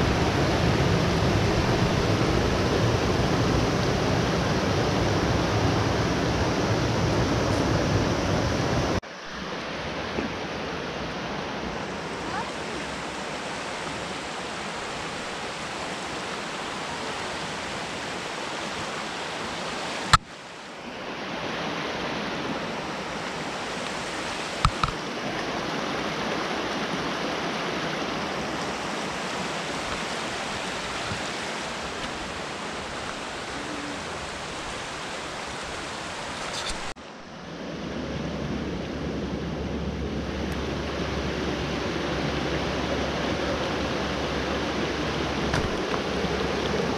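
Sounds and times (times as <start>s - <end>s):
creek rushing over stones: 0.0s - 37.9s, 40.2s - 46.9s.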